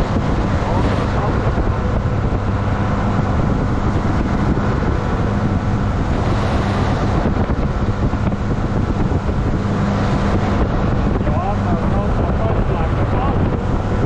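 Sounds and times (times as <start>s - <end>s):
motorboat engine humming: 0.0s - 14.0s
wind noise on microphone: 0.0s - 14.0s.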